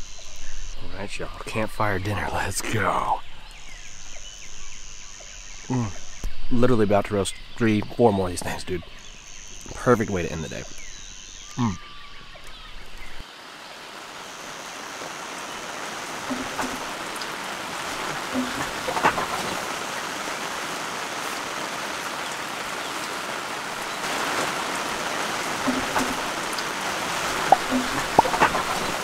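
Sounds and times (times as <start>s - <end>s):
raindrops ticking close by: 0.0s - 29.0s
steady rain falling: 0.0s - 29.0s.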